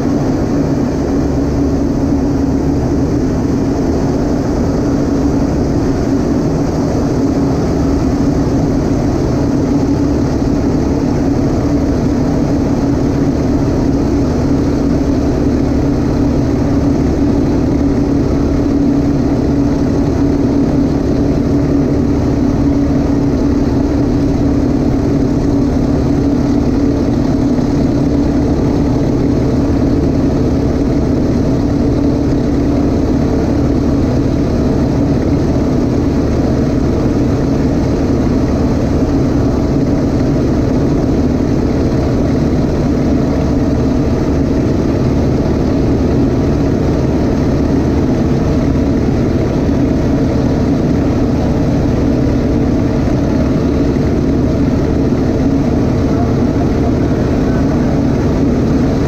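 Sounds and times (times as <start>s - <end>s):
aircraft engine and propeller drone: 0.0s - 59.0s.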